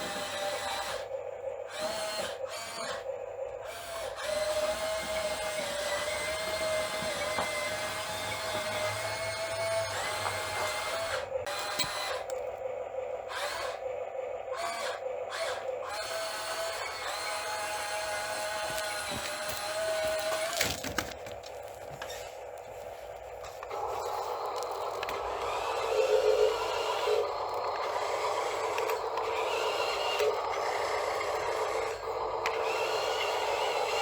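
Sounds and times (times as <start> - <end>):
pump motor whine: 0.0 - 34.0.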